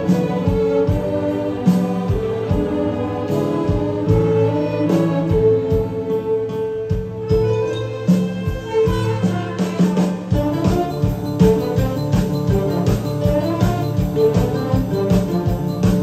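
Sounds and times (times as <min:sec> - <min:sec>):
bowed strings playing tune: 0:00.0 - 0:16.0
steady drum beat: 0:00.0 - 0:16.0.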